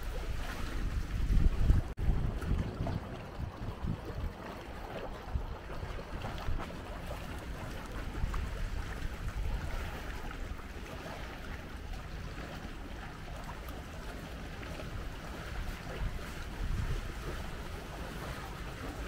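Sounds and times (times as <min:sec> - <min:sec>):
sea water washing: 0:00.0 - 0:19.0
wind rumbling on microphone: 0:00.0 - 0:19.0.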